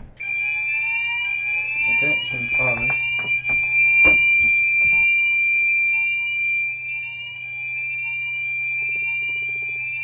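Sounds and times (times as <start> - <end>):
fire alarm sounders: 0.0 - 10.0.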